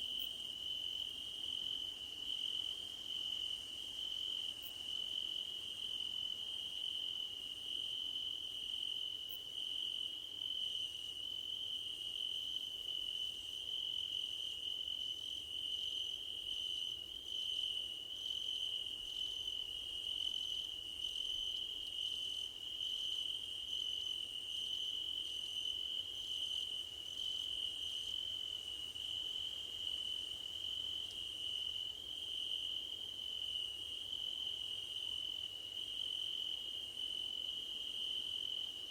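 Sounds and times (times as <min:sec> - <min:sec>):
high pulsing insect call: 0:00.0 - 0:38.9.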